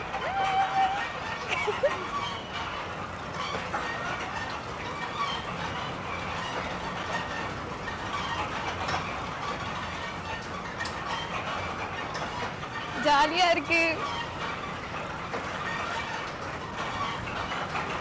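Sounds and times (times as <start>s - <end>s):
fairground ride rumble: 0.0s - 18.0s.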